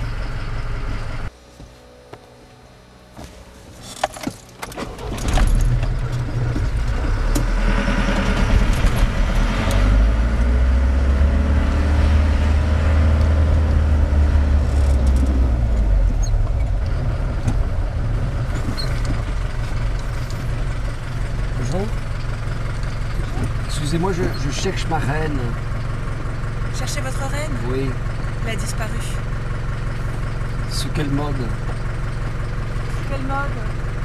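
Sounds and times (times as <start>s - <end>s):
car engine rumble: 0.0s - 34.0s.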